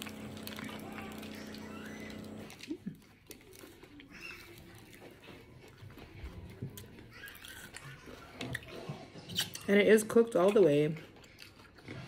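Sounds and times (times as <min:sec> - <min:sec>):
chewing with mouth clicks: 0:00.0 - 0:12.0.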